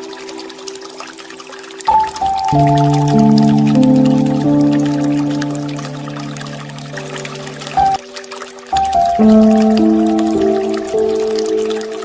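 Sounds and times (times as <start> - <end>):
light rain: 0.0 - 12.0
water drips: 0.0 - 12.0
slow instrumental music: 1.9 - 12.0.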